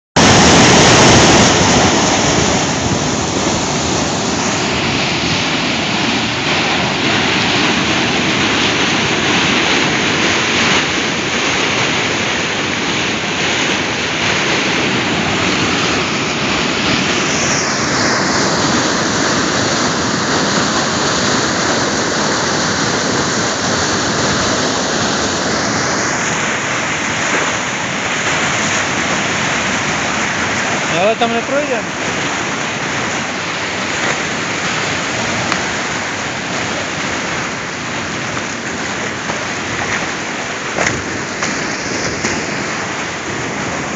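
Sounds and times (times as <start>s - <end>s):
river rushing in flood: 0.2s - 43.9s.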